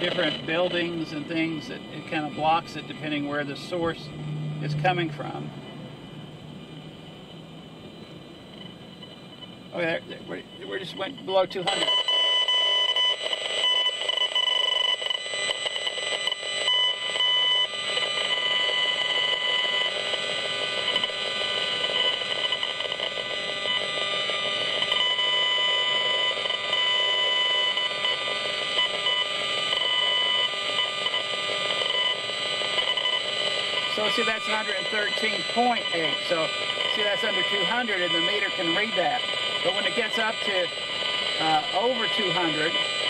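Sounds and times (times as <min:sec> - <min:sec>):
electronic buzz with shrill tones: 0:00.0 - 0:43.0.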